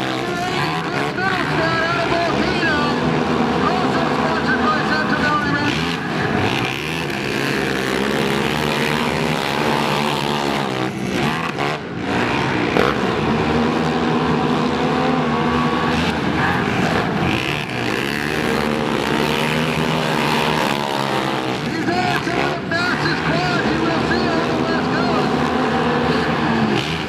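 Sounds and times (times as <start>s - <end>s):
quad engines revving: 0.0s - 27.0s.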